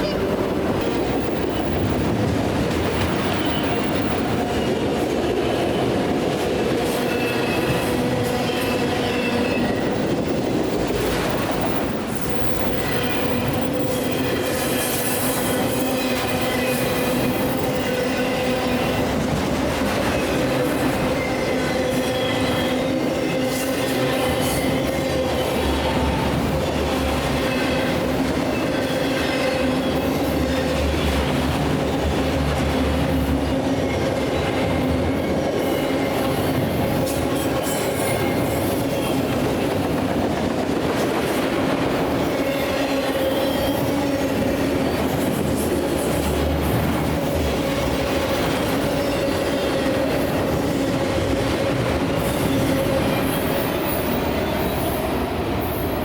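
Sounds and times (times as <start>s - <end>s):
train cars rumbling past: 0.0s - 56.0s.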